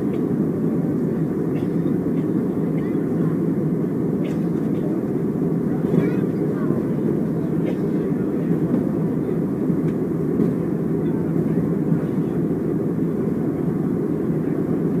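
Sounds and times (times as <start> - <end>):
airliner cabin noise: 0.0 - 15.0.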